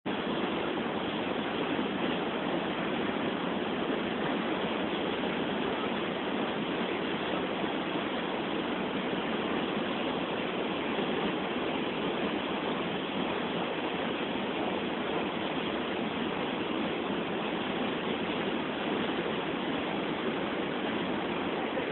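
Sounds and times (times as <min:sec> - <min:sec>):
river water rushing over weir: 0:00.1 - 0:21.9.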